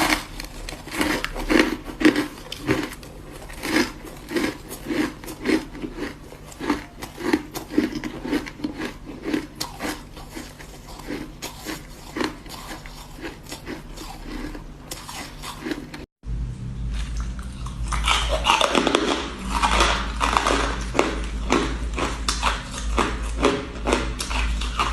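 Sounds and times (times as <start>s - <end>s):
ice crunching between teeth: 0.0s - 16.1s, 17.0s - 24.9s
steady low hum: 0.0s - 24.9s.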